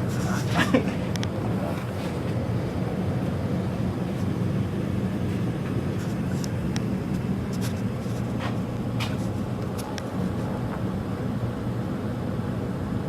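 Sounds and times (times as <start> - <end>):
gas burners rumbling: 0.0 - 13.0.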